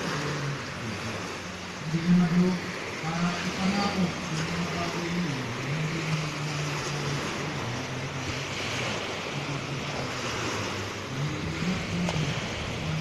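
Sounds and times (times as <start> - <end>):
low wavering hum: 0.0 - 13.0
small waves breaking on a beach: 0.0 - 13.0.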